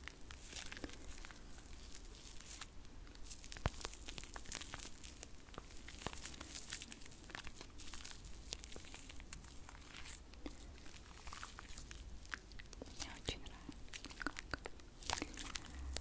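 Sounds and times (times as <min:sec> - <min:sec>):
small crackling clicks: 0:00.0 - 0:16.0.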